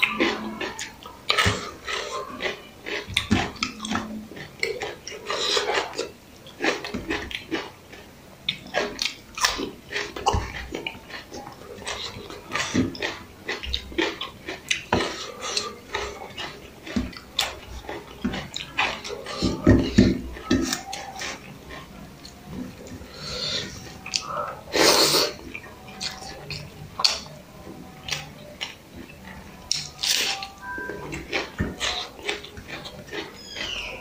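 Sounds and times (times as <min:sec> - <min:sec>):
chewing and lip-smacking: 0:00.0 - 0:34.0
raw onion bitten and chewed: 0:00.0 - 0:34.0.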